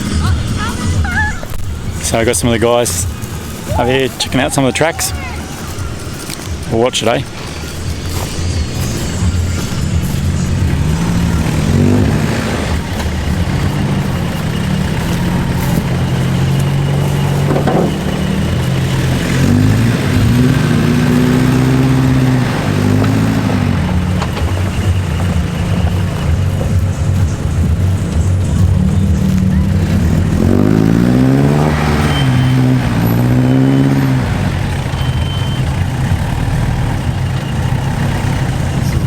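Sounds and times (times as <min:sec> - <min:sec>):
vehicle engine revving: 0:00.0 - 0:39.0.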